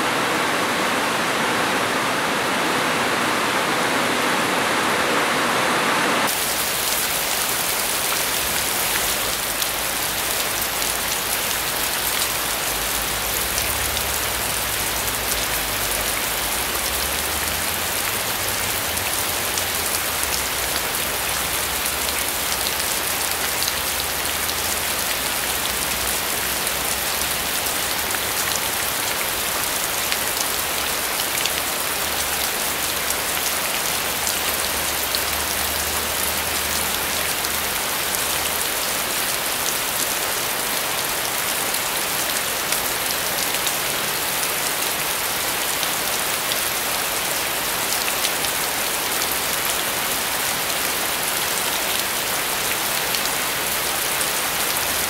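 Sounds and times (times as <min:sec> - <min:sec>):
heavy rain on concrete roof: 0:00.0 - 0:55.0.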